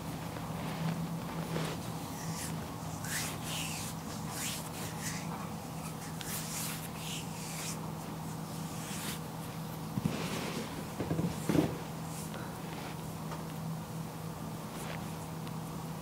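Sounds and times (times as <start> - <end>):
steady low hum: 0.0 - 16.0
hands rubbing skin: 0.2 - 13.1.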